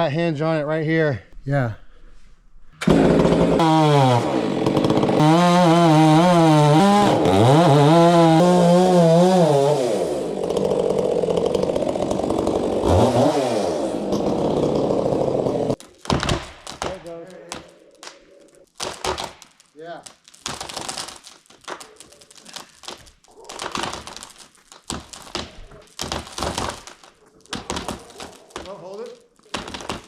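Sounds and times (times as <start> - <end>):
chainsaw cutting wood: 2.8 - 18.2, 20.2 - 30.0.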